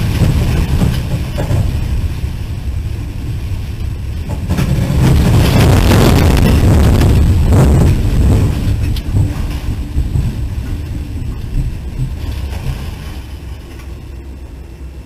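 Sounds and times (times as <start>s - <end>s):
low rumbling: 0.0s - 15.0s
tornado wind: 0.0s - 15.0s.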